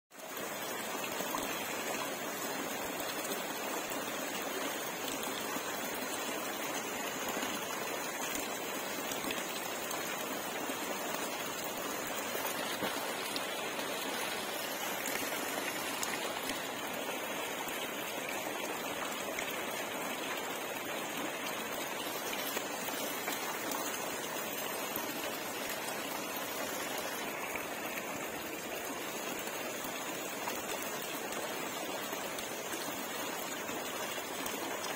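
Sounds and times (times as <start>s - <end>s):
water jet pouring into pond: 0.2s - 34.9s.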